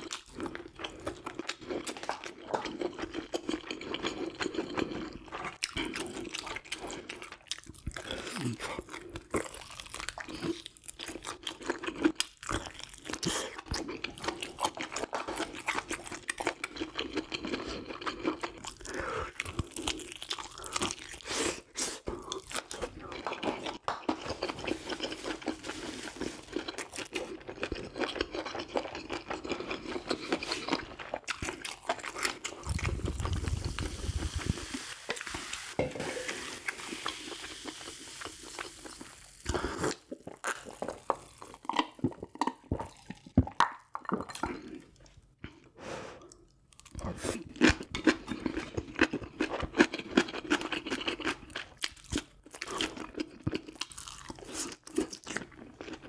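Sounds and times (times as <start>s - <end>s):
person crunching food: 0.0s - 45.6s, 46.3s - 56.0s.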